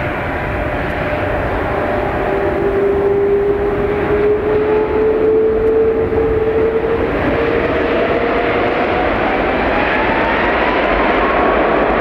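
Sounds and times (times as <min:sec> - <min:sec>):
jet engines roaring on takeoff: 0:00.0 - 0:12.0.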